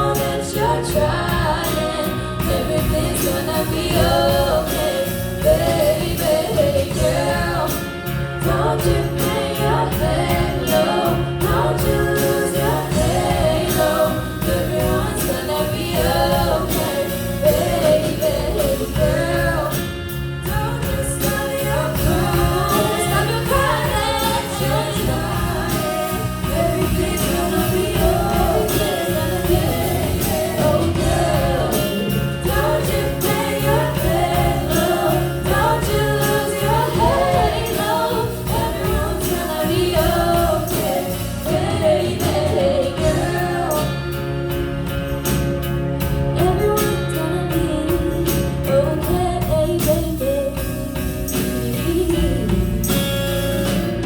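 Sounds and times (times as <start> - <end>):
high percussive beat: 0.0 - 46.4
band accompaniment: 0.0 - 54.0
bass line: 0.0 - 54.0.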